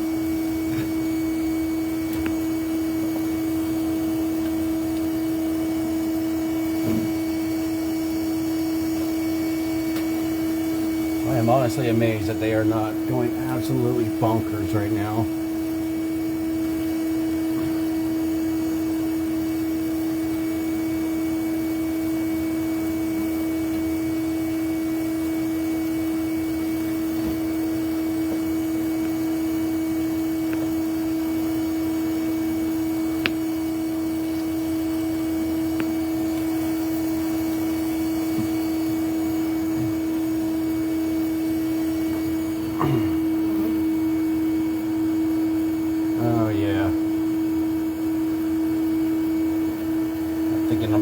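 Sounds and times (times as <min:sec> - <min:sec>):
vacuum motor humming: 0:00.0 - 0:51.0.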